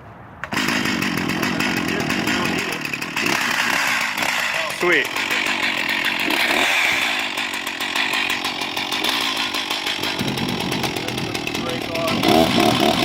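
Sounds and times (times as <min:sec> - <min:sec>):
chainsaw running loudly: 0:00.4 - 0:13.0.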